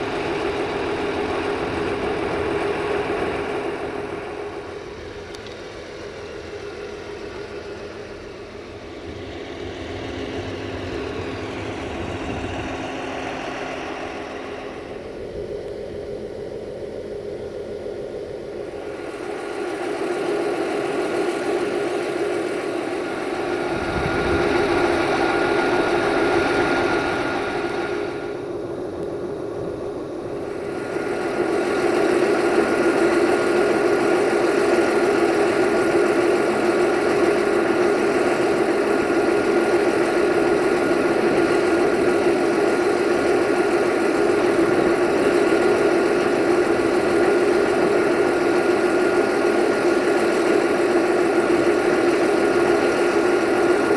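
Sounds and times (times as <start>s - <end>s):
locomotive engine running: 0.0s - 53.9s.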